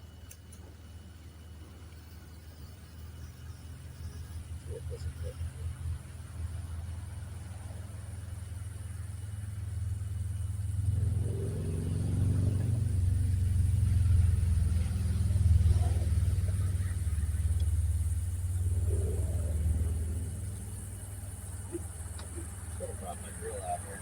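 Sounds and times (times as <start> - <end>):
motor vehicle engine rumble: 0.0 - 24.0.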